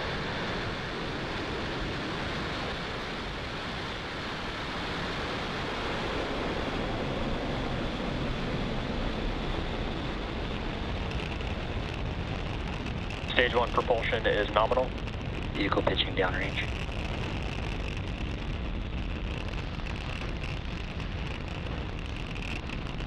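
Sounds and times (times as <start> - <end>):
rocket engines roaring: 0.0 - 23.0.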